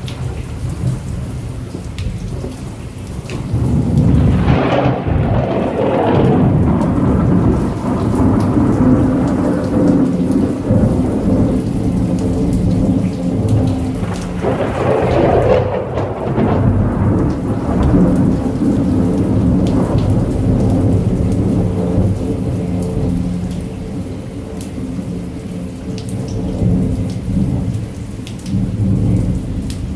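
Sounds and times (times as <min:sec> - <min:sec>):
heavy rain falling: 0:00.0 - 0:29.9
deep rumbling thunder: 0:03.3 - 0:29.9.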